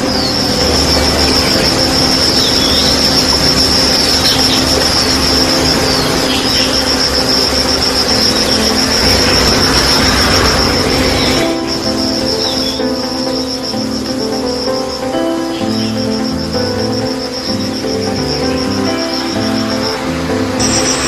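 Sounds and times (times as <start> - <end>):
crickets trilling: 0.0 - 21.0
loud steady rushing noise: 0.0 - 21.0.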